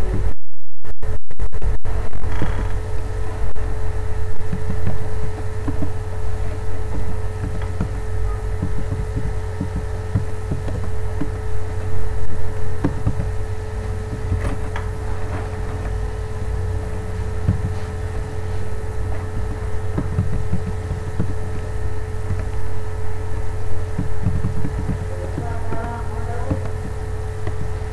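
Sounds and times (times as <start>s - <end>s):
constant mid-pitched tone: 0.0s - 0.4s, 1.0s - 27.9s
low electrical hum: 0.0s - 0.4s, 1.6s - 27.9s.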